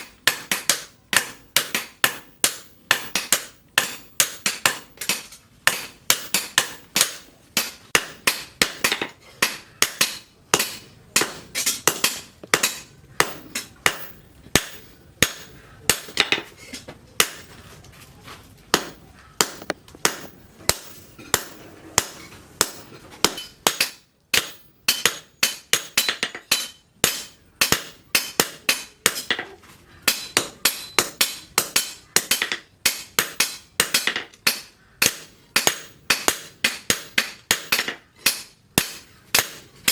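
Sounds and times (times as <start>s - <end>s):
hammer ringing on steel: 0.3s - 16.5s, 18.7s - 29.3s, 30.1s - 39.6s.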